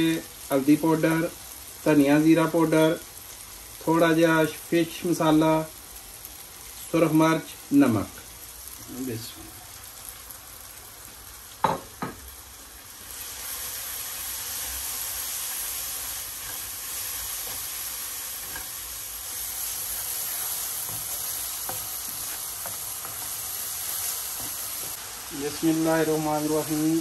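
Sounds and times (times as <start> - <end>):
masala sizzling in oil: 0.0 - 27.0.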